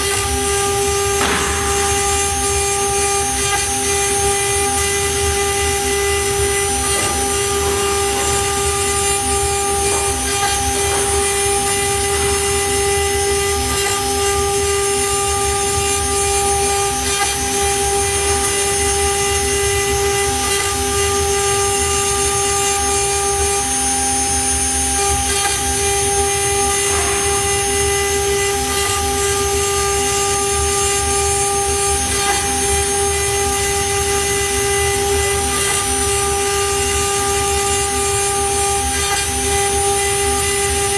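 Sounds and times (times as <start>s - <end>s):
router bit cutting wood: 0.0s - 40.9s
router spindle whine: 0.0s - 40.9s.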